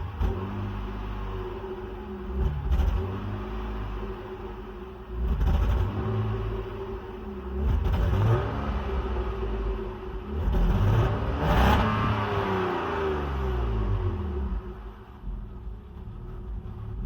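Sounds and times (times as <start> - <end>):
car engine running rough: 0.0 - 17.0.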